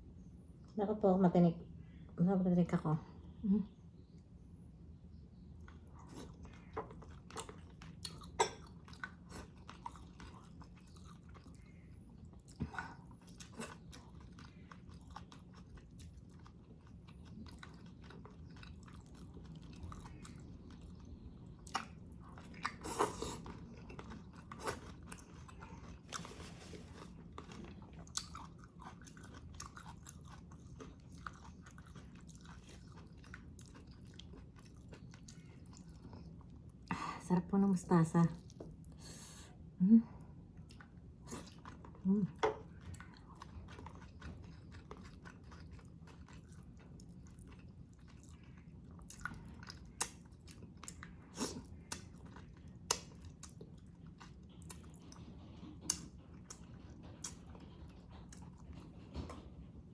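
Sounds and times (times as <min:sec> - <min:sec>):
chewing and biting: 0:05.6 - 0:36.9, 0:40.5 - 0:59.9.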